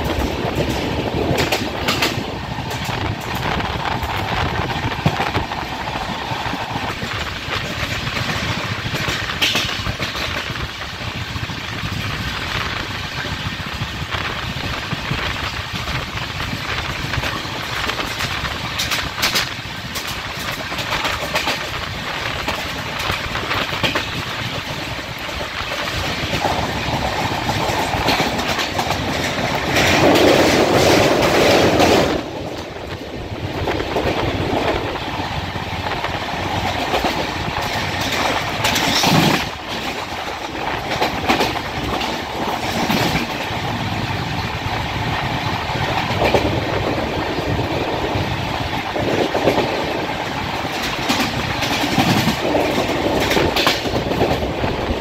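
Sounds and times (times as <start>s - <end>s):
clickety-clack over rail joints: 0.0s - 55.0s
train wheels rumbling on rails: 0.0s - 55.0s.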